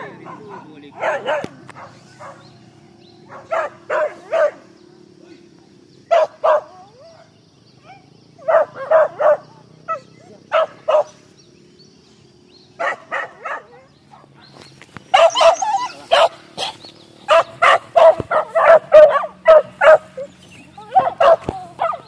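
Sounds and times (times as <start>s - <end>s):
dogs barking: 0.0s - 4.9s, 5.7s - 11.4s, 12.7s - 22.0s.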